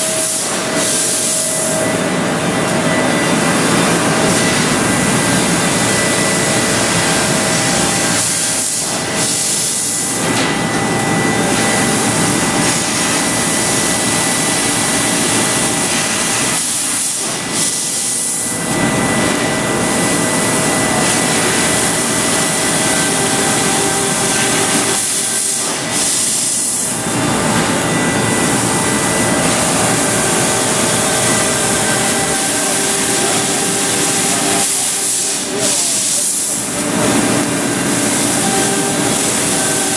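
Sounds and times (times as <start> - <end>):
laser cutter hissing: 0.0 - 39.9
thin high whine: 0.0 - 39.9.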